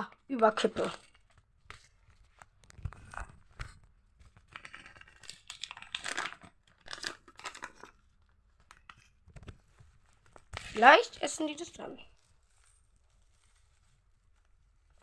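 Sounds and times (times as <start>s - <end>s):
packet rustling: 0.2s - 9.3s, 9.9s - 15.0s.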